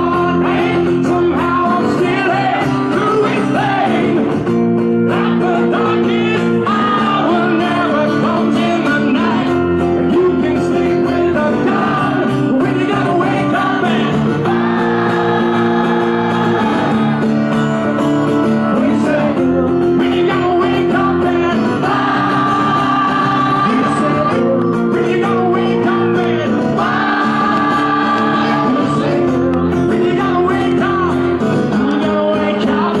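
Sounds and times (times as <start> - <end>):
acoustic guitar chords: 0.0 - 33.0.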